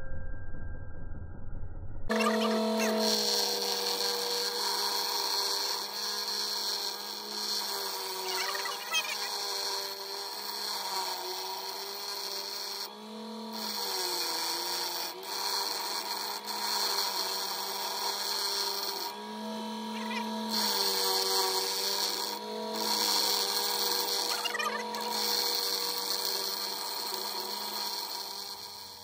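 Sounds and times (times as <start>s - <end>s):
steel grinding hiss: 2.1s - 12.9s, 13.5s - 29.0s
bench grinder motor hum: 2.1s - 29.0s.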